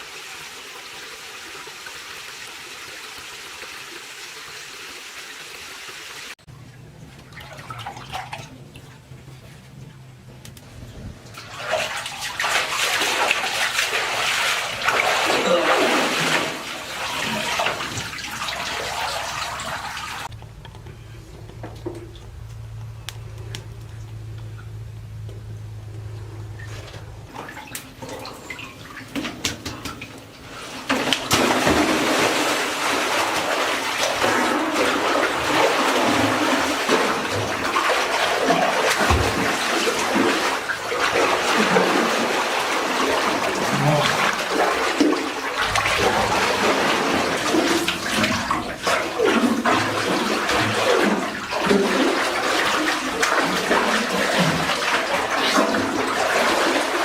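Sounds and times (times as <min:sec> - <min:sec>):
water pouring and splashing: 0:00.0 - 0:09.1, 0:11.2 - 0:20.3, 0:26.6 - 0:57.0.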